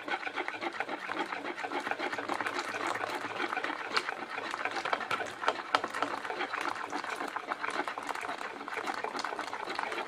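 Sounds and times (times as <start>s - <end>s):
eggs whisked in a bowl: 0.0s - 10.0s.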